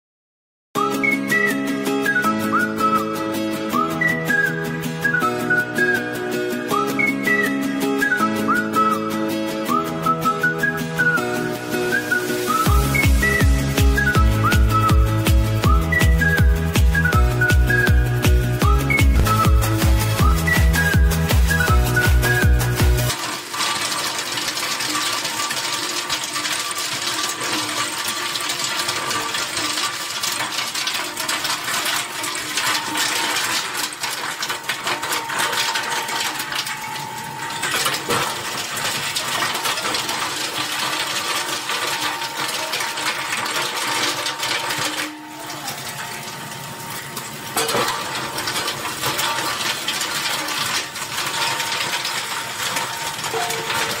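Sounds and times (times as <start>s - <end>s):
oil filters crushed with metallic clatter: 9.7s - 54.0s.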